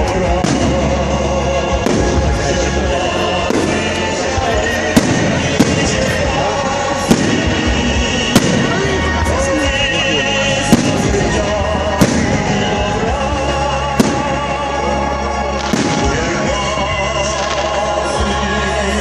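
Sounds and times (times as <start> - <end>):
music playing: 0.0 - 19.0
firework bangs: 0.1 - 9.4, 10.5 - 14.8, 15.5 - 18.4.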